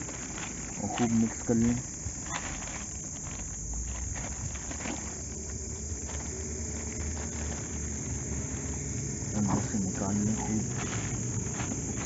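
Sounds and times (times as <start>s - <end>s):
high insect drone: 0.0s - 12.0s
plastic bag rustling: 0.0s - 12.0s.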